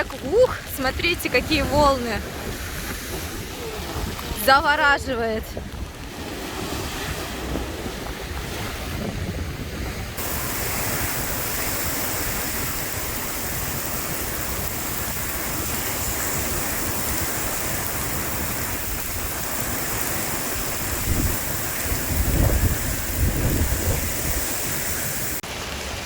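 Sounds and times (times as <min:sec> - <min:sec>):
wind blowing on microphone: 0:00.0 - 0:25.4
stormy sea surf breaking: 0:00.0 - 0:26.0.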